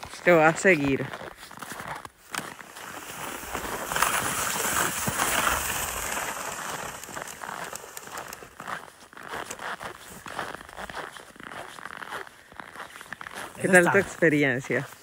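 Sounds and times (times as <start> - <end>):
sled scraping over snow: 0.0 - 15.0.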